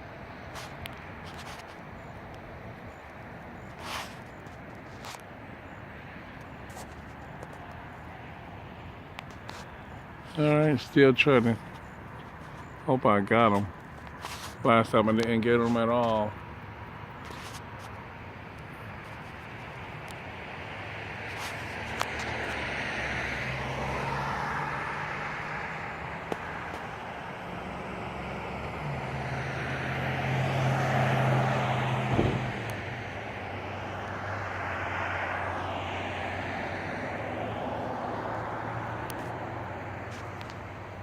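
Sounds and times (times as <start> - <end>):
low engine hum: 0.0 - 41.0
vehicles passing: 0.0 - 41.0.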